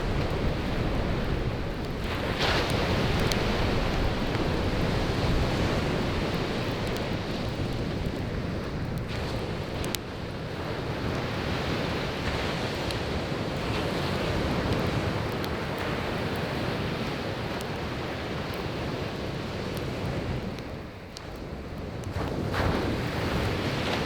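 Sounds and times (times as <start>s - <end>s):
firewood crackling: 0.0s - 24.0s
sea waves breaking on beach: 0.0s - 24.0s.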